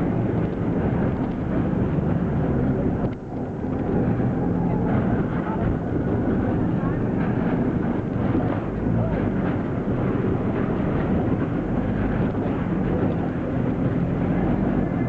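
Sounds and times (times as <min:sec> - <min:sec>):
auto-rickshaw engine running: 0:00.0 - 0:15.0.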